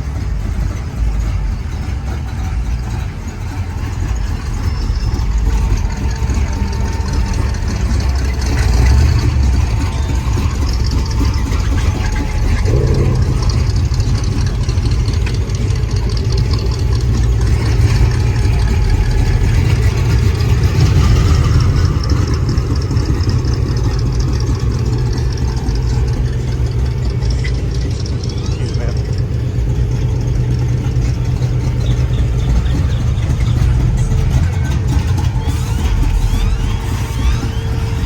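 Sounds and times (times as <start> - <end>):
car engines idling: 0.0 - 38.0.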